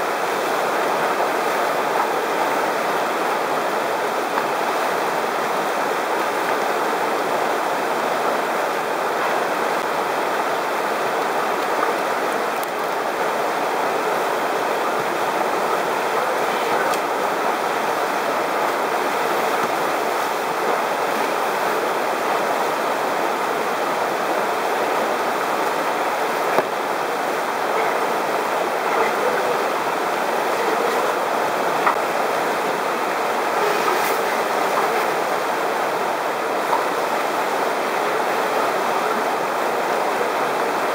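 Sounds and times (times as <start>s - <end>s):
whitewater rapid rushing: 0.0s - 40.9s.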